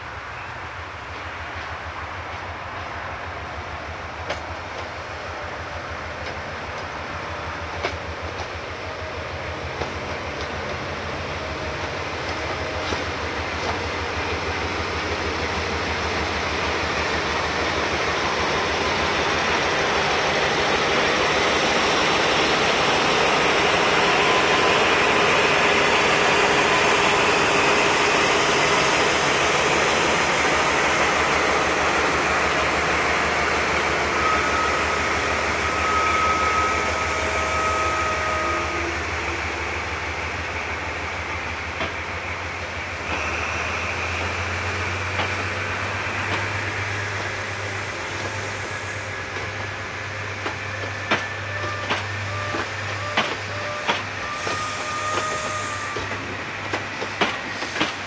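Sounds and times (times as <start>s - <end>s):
diesel train rumbling past: 0.0s - 58.0s.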